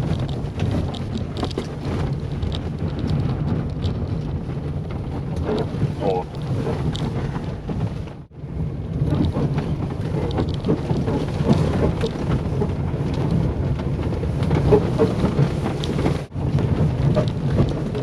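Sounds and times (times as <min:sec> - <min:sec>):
tyres and suspension rumbling: 0:00.0 - 0:18.0.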